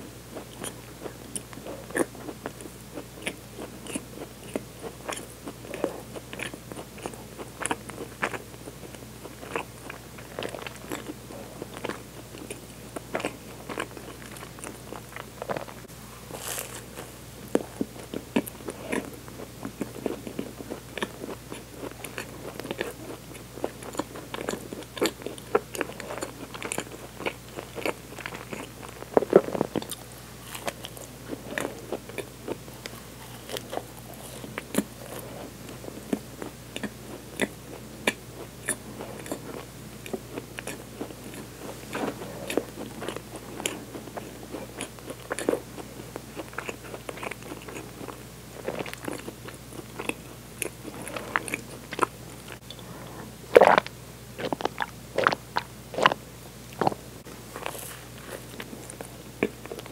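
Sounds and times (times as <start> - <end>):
chewing with wet mouth clicks: 0.4 - 15.8, 17.5 - 52.8, 53.6 - 57.0.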